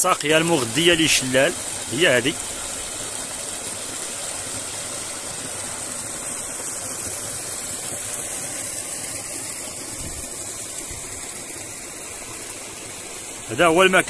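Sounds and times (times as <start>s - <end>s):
flowing water rushing: 0.0s - 14.0s.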